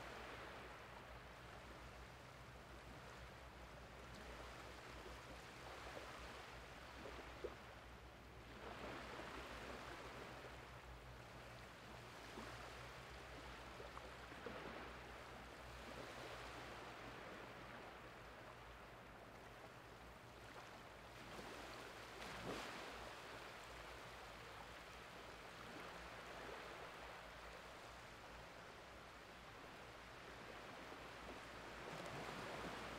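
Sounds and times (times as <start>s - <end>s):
small waves washing on beach: 0.0s - 32.9s.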